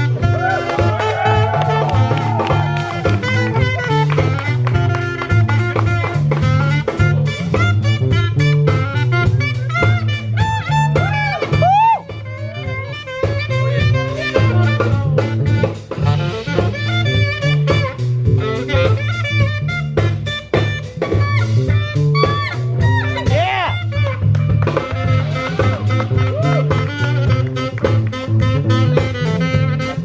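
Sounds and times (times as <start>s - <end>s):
drum kit: 0.0s - 30.0s
jazz music: 0.0s - 30.0s
saxophone: 0.0s - 30.0s.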